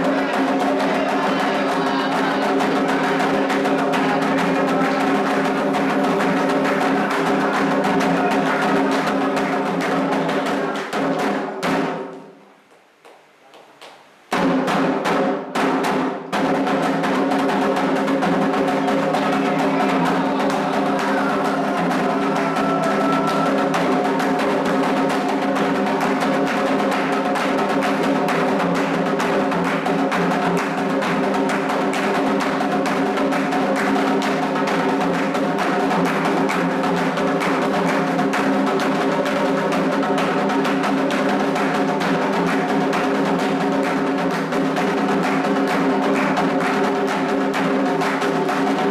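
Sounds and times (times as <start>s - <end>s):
hand drums playing: 0.0s - 12.2s, 14.3s - 48.9s
struck percussion keeping time: 0.0s - 12.2s, 13.8s - 48.9s.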